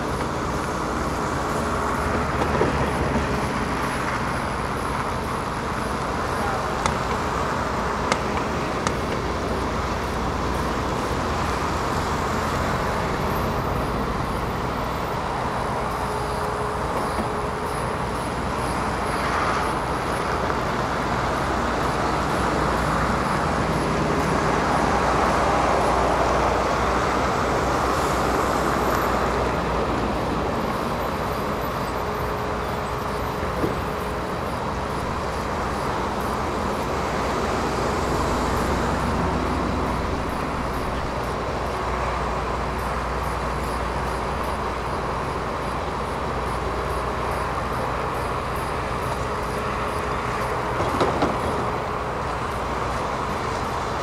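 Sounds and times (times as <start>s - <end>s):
diesel machinery running: 0.0s - 54.0s.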